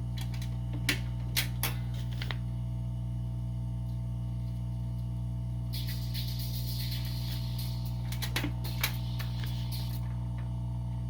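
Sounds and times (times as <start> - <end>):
amplifier electrical hum: 0.0 - 11.0.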